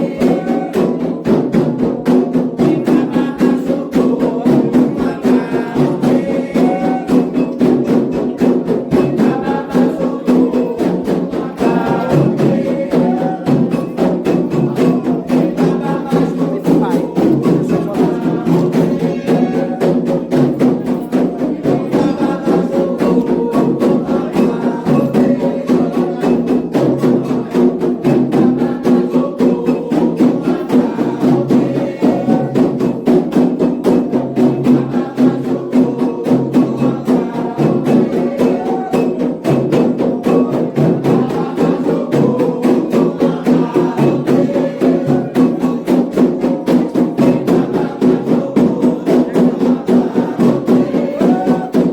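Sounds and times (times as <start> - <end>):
hand drums and bell rhythm: 0.0 - 51.9
voices singing: 0.0 - 51.9.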